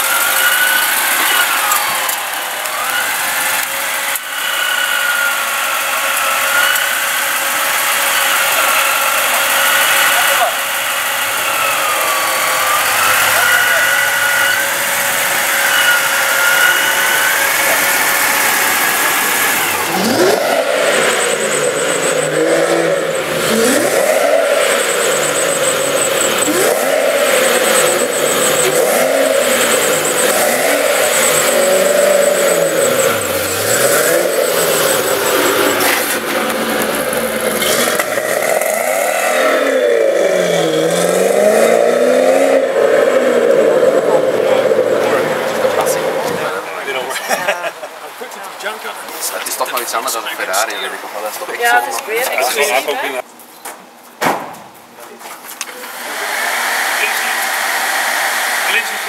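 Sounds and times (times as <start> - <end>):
car engine revving: 0.0 - 47.2, 55.7 - 59.0
steady high whine: 0.0 - 53.3.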